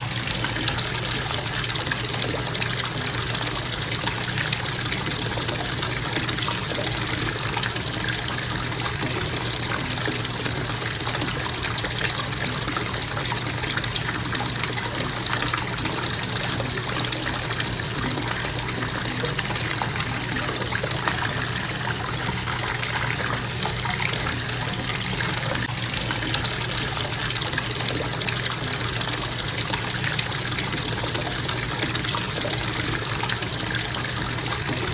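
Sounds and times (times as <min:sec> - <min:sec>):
faucet running into bathtub: 0:00.0 - 0:34.9.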